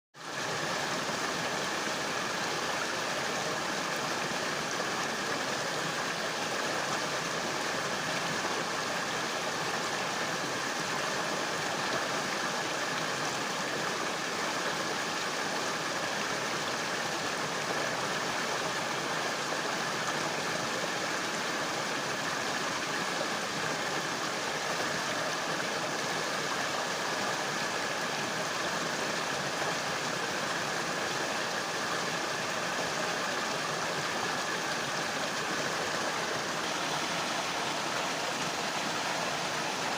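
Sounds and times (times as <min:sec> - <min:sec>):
river water flowing: 0:00.2 - 0:39.9.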